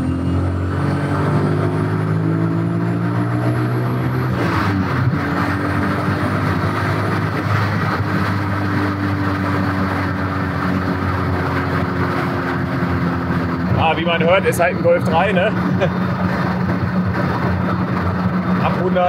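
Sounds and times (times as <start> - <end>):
car engine accelerating hard: 0.0 - 19.0
road and wind noise: 0.0 - 19.0.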